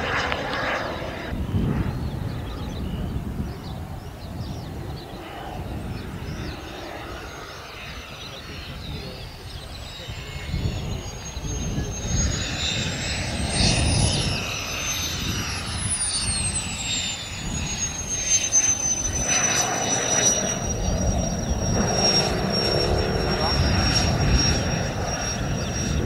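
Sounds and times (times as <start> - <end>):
jet turbine whining: 0.0 - 26.0
wind buffeting microphone: 0.0 - 26.0.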